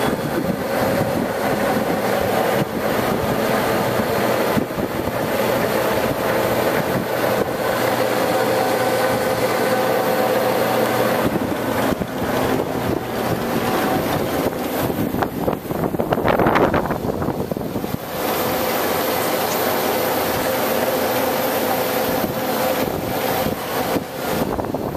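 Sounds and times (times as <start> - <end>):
lathe gearing whine: 0.0 - 24.9
motor hum: 0.0 - 24.9.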